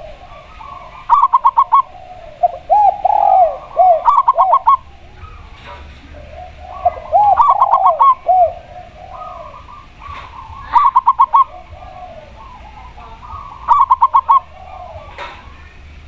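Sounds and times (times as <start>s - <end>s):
doves cooing: 0.0s - 16.0s.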